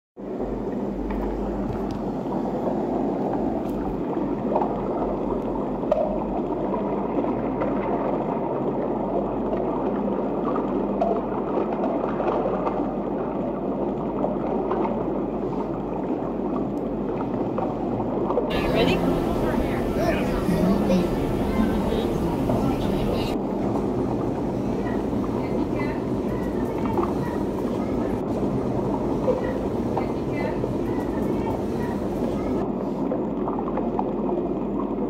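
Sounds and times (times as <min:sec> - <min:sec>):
underwater rush of water: 0:00.2 - 0:35.0.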